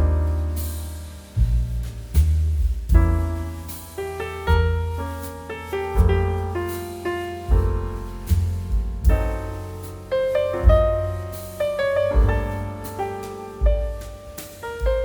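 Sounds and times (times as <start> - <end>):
piano chords: 0.0 - 1.9, 2.9 - 15.0
low piano bass note: 0.0 - 15.0.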